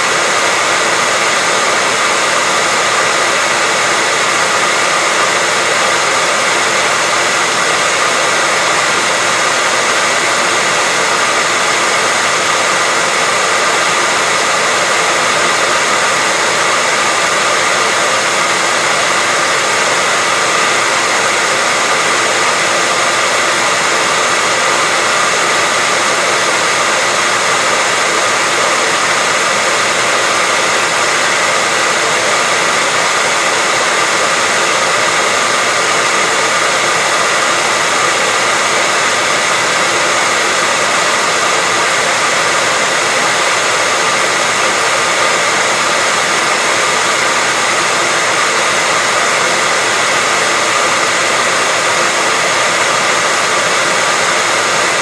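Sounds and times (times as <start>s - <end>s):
hairdryer running: 0.0s - 55.0s.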